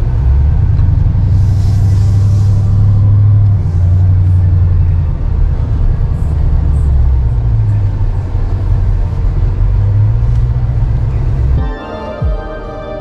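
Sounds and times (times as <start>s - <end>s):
car engine rumbling from inside cabin: 0.0s - 11.6s.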